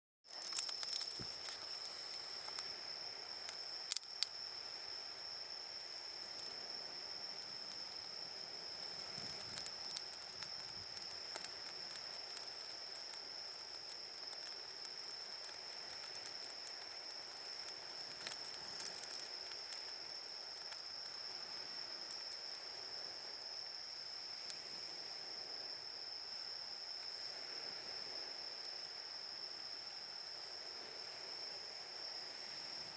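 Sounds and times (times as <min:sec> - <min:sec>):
crickets trilling: 0:00.3 - 0:32.9.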